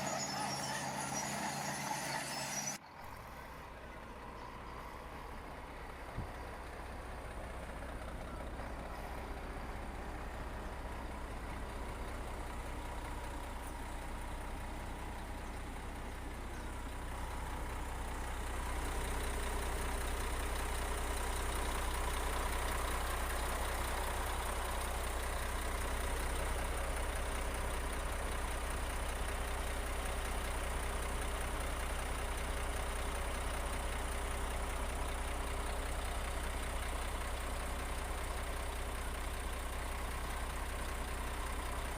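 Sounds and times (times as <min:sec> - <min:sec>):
heavy machinery diesel engine running: 0:00.0 - 0:41.9.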